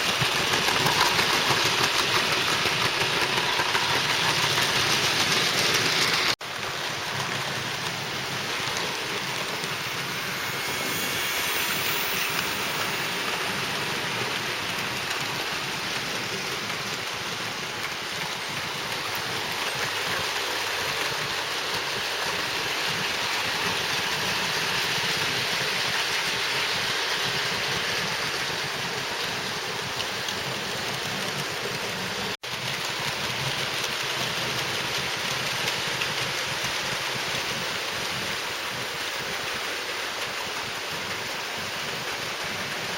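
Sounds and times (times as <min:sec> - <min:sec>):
model train wheels rattling on rails: 0:00.0 - 0:42.9.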